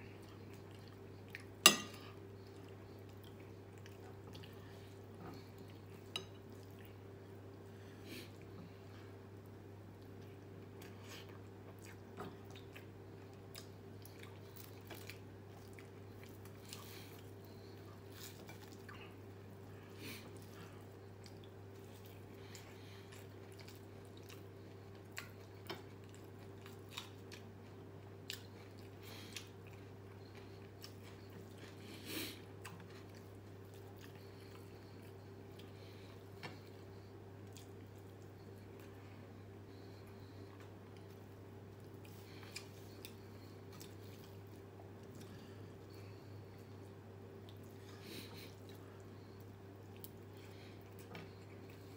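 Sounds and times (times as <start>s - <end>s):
person chewing food: 0.0s - 7.6s, 8.2s - 51.9s
steady low hum: 0.0s - 51.9s.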